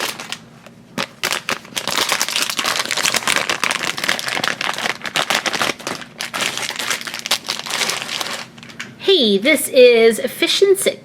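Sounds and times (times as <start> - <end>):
plastic packets crinkling: 0.0 - 8.9.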